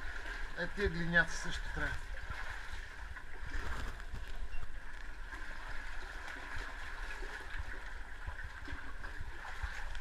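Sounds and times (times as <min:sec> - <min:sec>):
water running and gurgling: 0:00.0 - 0:10.0.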